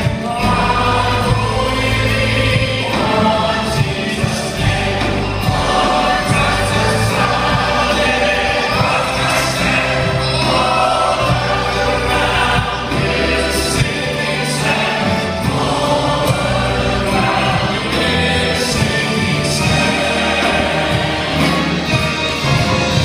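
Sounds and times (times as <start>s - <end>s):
choir singing gospel song: 0.0s - 23.0s
drum strikes: 0.0s - 23.0s
low bass notes: 0.0s - 23.0s.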